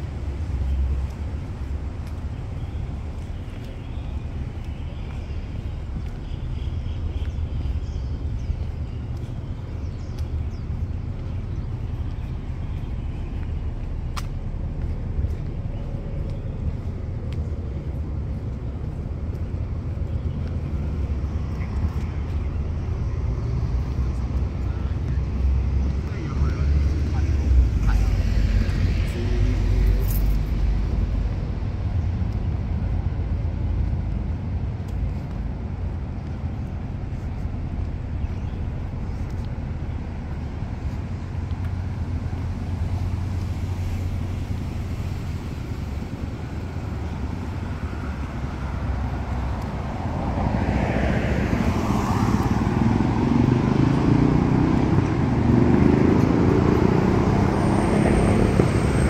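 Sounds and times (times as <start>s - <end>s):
distant road traffic rumble: 0.0s - 59.0s
approaching vehicle engine: 8.2s - 59.0s.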